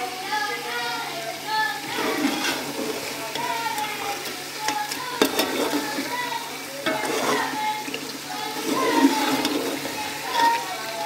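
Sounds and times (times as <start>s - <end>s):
meat sizzling in a pot: 0.0s - 11.0s
metal skimmer scraping pot: 1.8s - 11.0s.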